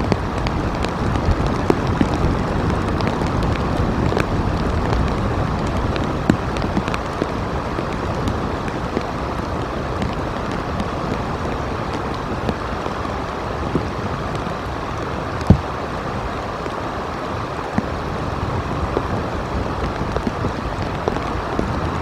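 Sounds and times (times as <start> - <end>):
raindrop ticks: 0.0 - 15.7, 17.6 - 18.0, 18.8 - 22.0
steady rain: 0.0 - 22.0
wind: 0.0 - 22.0.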